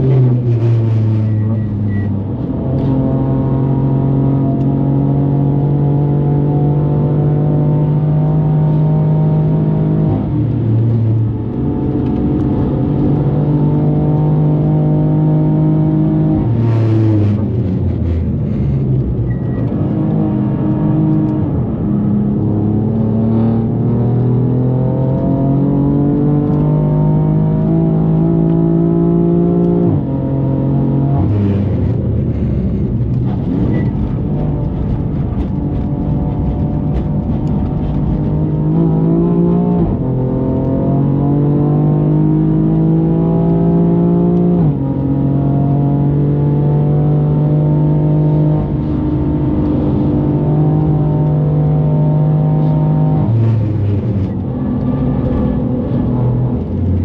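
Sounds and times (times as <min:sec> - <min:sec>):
car engine revving with upshifts: 0:00.0 - 0:57.0.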